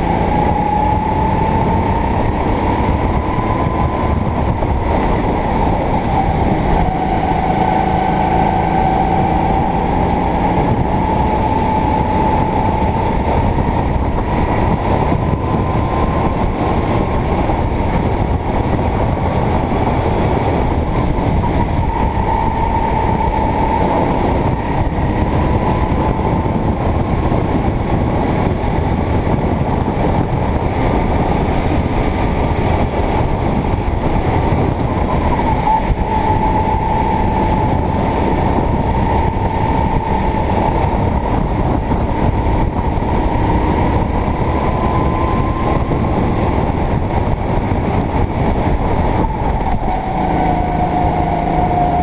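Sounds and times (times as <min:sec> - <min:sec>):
kart engine running: 0:00.0 - 0:52.0
steady rushing noise: 0:00.0 - 0:52.0.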